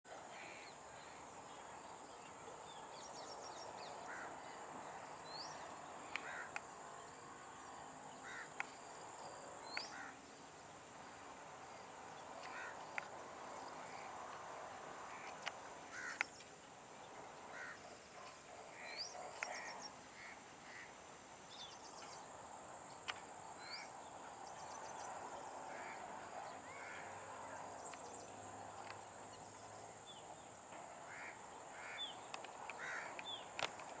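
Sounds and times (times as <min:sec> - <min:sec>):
running water hiss: 0:03.0 - 0:34.0.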